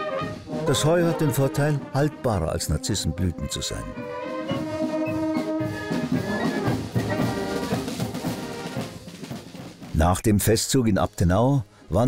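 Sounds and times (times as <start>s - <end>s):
marching brass band playing: 0.0s - 10.0s.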